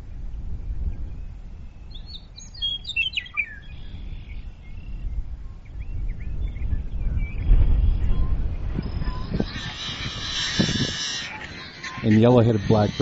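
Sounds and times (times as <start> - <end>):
meadowlark singing: 0.9 - 13.0.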